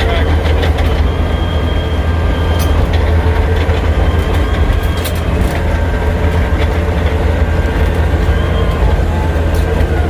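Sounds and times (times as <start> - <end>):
diesel engine rumble: 0.0 - 10.0
steel tracks clanking: 0.0 - 10.0.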